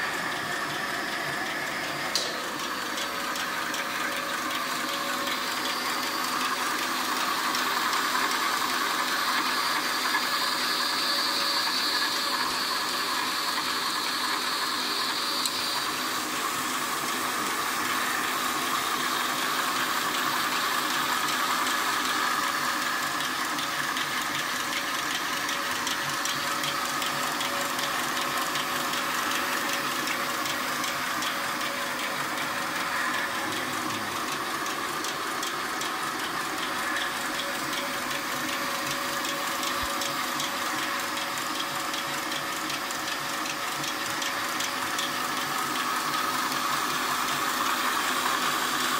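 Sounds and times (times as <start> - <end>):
machine clattering with rapid ticks: 0.0 - 48.9.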